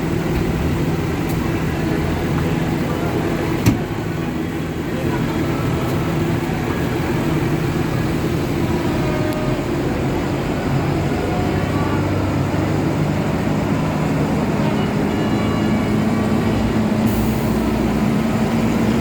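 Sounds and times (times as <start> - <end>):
tractor engines droning: 0.0 - 19.0.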